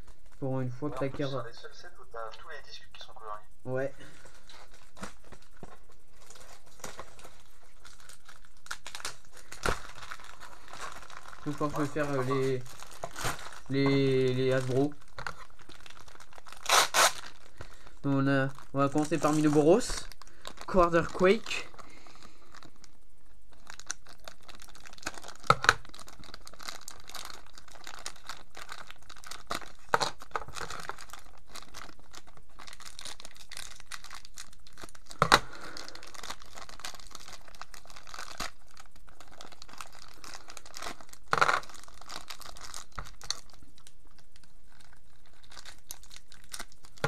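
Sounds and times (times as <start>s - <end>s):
plastic bags crinkling and tearing: 0.0s - 1.3s, 4.0s - 47.0s.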